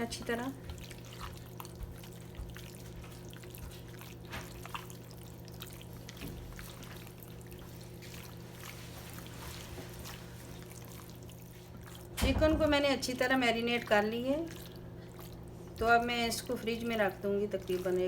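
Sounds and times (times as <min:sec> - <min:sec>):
low steady hum: 0:00.0 - 0:18.0
wet squishing: 0:00.0 - 0:18.0.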